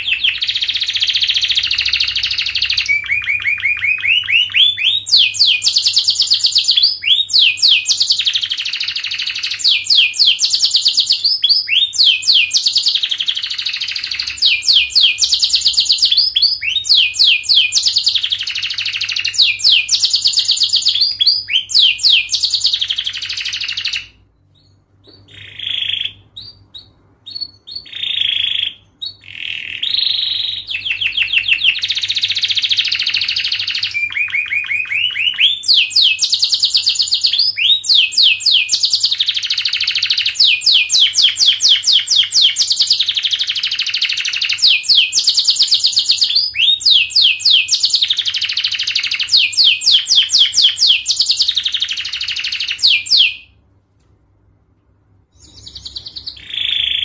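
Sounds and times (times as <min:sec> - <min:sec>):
canary singing trills: 0:00.0 - 0:53.6, 0:55.3 - 0:57.0.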